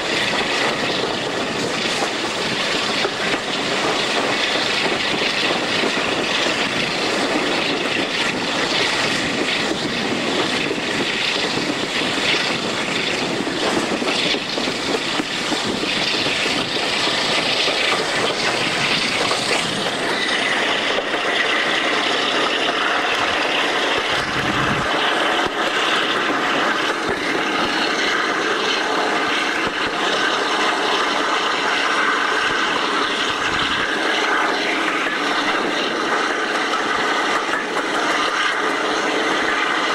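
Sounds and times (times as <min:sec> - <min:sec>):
diesel locomotive engine drone: 0:00.0 - 0:39.9
wind and rail noise: 0:00.0 - 0:39.9.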